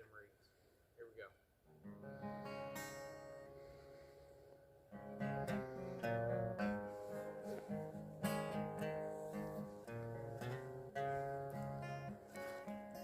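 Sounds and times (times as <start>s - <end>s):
country guitar playing: 1.7s - 13.0s.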